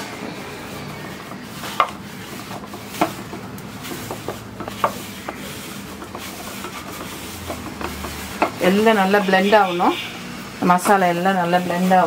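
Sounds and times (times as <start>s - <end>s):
utensil stirring thick paste: 0.6s - 12.0s.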